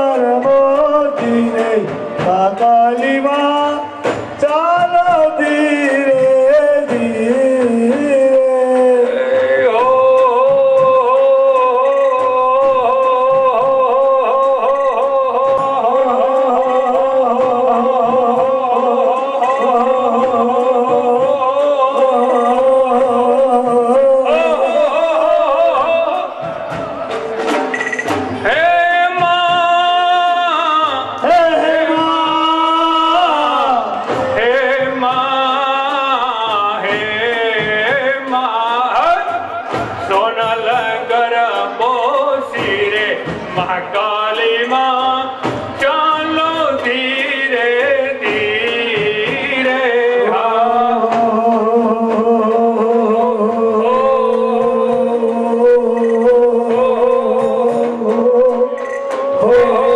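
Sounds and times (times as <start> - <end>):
man singing over loudspeaker: 0.0 - 59.9.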